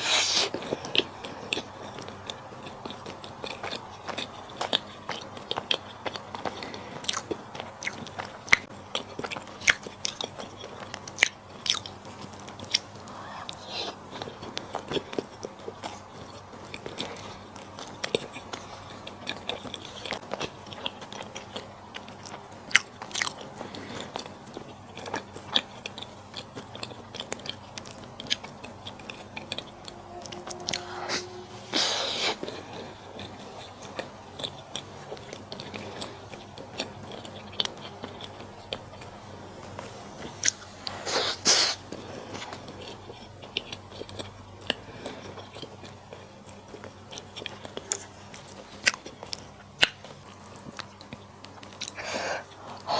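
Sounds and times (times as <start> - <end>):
chewing with wet clicks: 0.3 - 31.3, 32.4 - 52.9.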